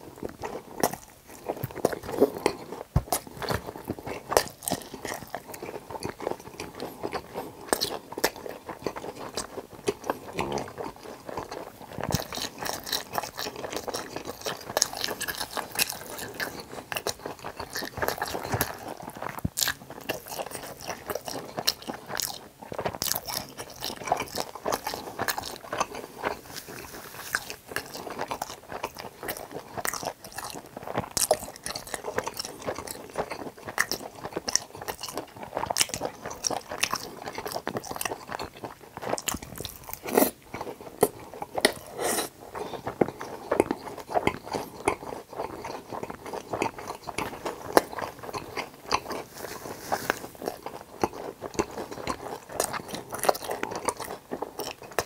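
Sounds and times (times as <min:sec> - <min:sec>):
crisp chewing crunches: 0:00.0 - 0:55.0.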